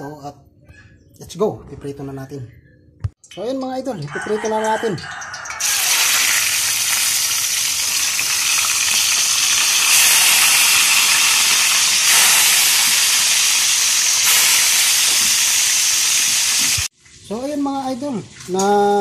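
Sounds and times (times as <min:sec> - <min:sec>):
fish frying in hot oil: 0:03.2 - 0:19.0.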